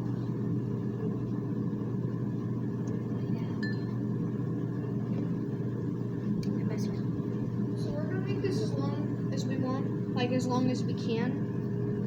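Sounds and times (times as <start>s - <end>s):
food cooking hum: 0.0s - 12.0s.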